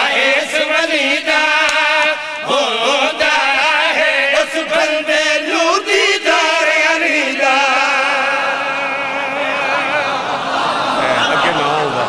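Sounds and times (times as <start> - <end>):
men chanting together: 0.0 - 11.1.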